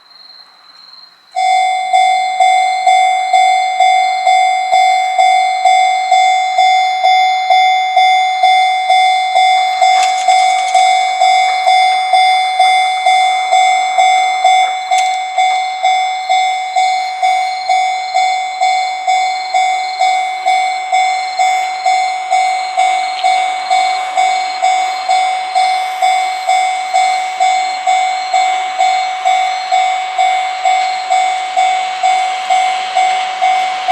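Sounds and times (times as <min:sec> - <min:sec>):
approaching train: 0:00.0 - 0:33.9
level crossing bell ringing: 0:01.4 - 0:33.9.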